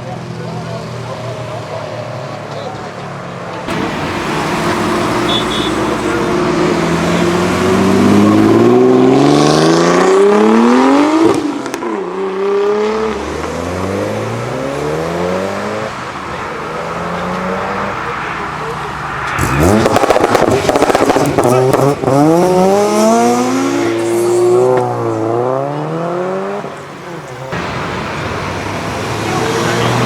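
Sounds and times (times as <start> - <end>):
car engine accelerating hard: 3.5 - 30.0.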